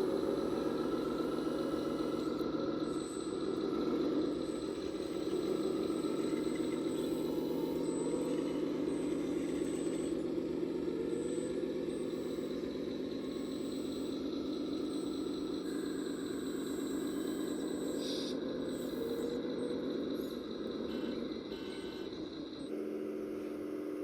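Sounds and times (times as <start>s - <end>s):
simulated diesel engine sound: 0.0s - 24.0s.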